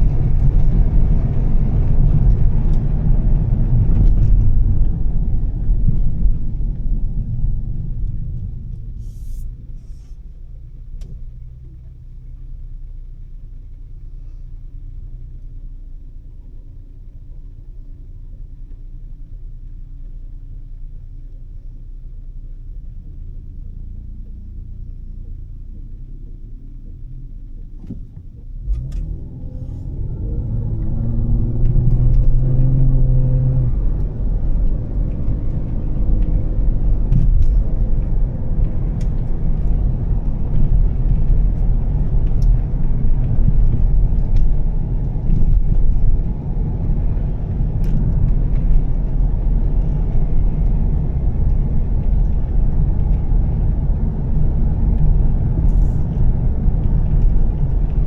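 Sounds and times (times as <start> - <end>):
car engine accelerating: 0.0 - 12.5, 23.2 - 58.0.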